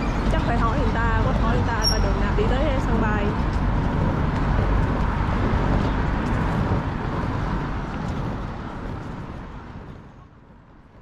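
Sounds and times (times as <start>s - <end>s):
vehicle rumble passing: 0.0s - 11.0s.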